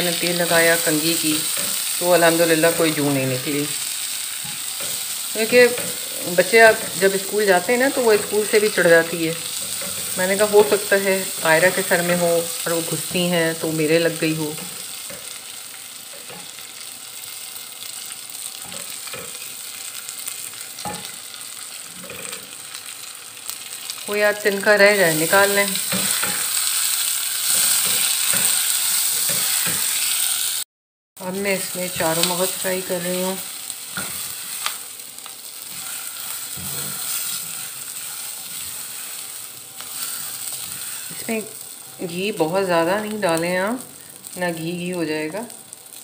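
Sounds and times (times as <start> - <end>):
raisins sizzling in a pot: 0.0 - 46.0.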